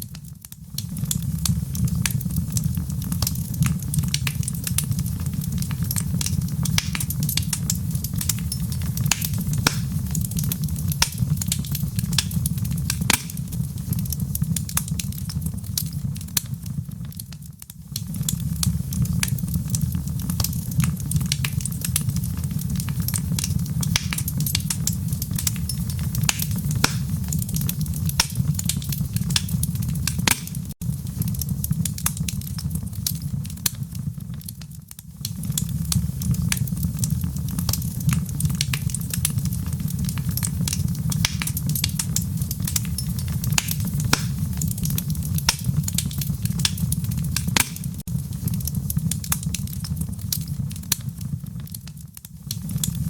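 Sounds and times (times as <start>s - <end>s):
fire pops and snaps: 0.0s - 53.0s
low rumble of fire: 0.0s - 53.0s
wood fire crackling: 0.0s - 53.0s.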